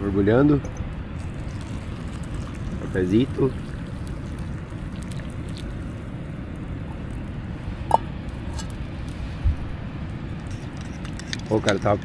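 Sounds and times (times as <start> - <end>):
pot of water bubbling: 0.7 - 11.8.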